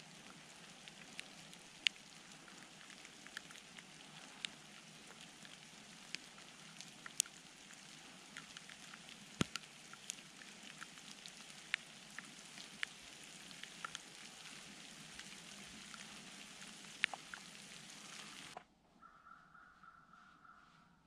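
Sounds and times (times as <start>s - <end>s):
light rain on dry leaves: 0.0s - 18.6s.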